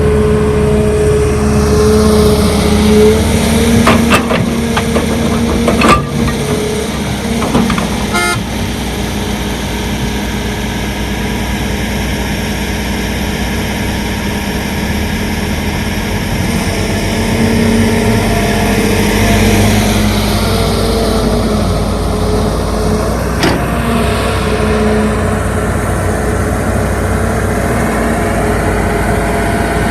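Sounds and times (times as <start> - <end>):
heavy diesel engines revving: 0.0 - 29.9.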